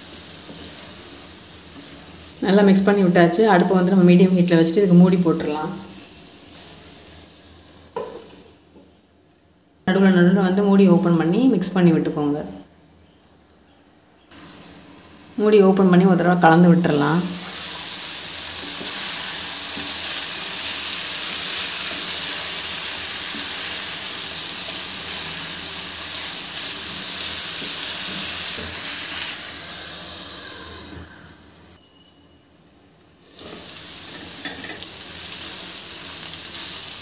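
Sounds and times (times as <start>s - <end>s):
vegetables sizzling in a frying pan: 0.0s - 8.6s, 14.3s - 31.8s, 33.2s - 37.0s.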